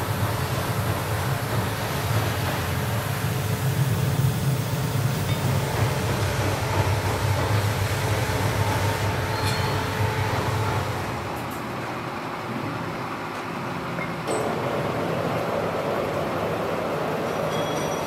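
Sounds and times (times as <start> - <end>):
workshop machinery humming: 0.0 - 18.0.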